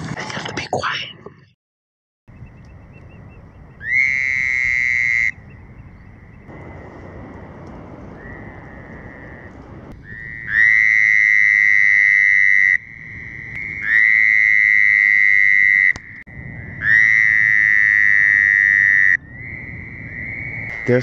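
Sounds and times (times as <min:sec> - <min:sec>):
distant toads calling: 0:02.4 - 0:07.0, 0:08.1 - 0:21.0.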